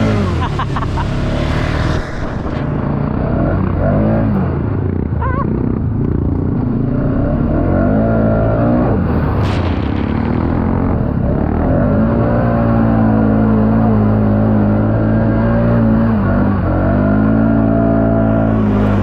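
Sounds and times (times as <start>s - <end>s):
atv engine revving: 0.0s - 1.8s, 3.1s - 9.4s, 10.1s - 19.0s.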